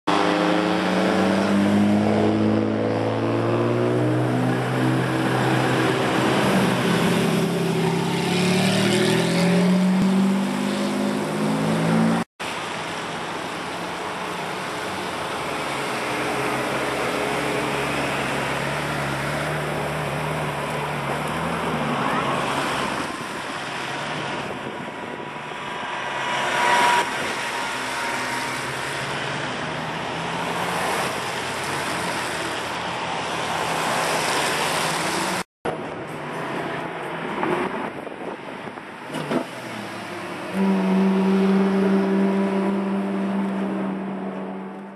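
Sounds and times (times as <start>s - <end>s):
cars driving past: 0.1s - 44.9s.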